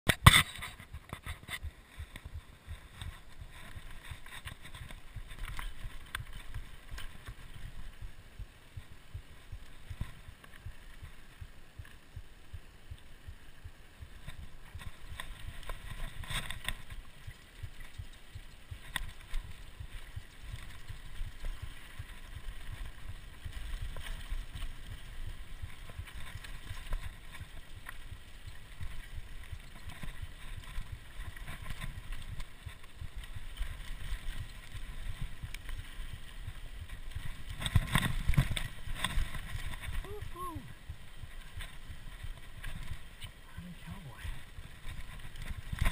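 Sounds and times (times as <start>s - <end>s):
bike rattling over bumps: 0.1s - 11.2s, 14.0s - 40.0s
bike tyres rumbling over dirt: 0.2s - 45.9s.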